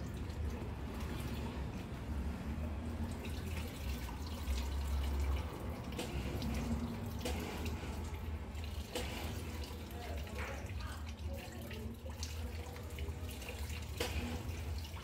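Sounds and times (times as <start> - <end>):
water splashing into a basin: 0.0 - 15.0.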